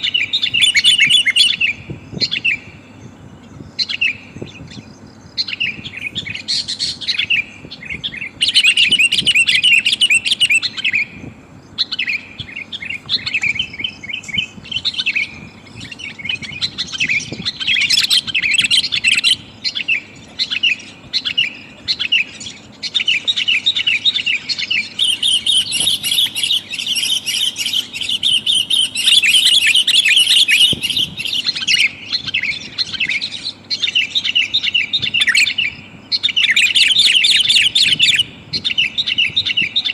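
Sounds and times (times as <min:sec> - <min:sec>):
bulbul chattering call: 0:00.0 - 0:02.9, 0:03.7 - 0:39.9.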